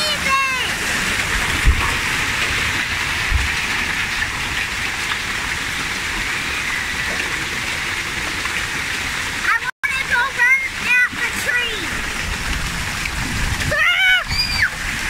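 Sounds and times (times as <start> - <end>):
hail pelting ground: 0.0 - 15.0.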